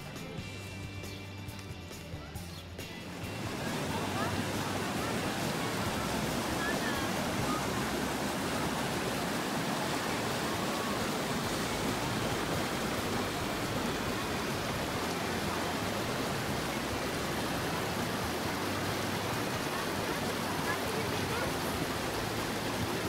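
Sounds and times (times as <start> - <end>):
water rushing down stone channel: 2.8 - 23.0.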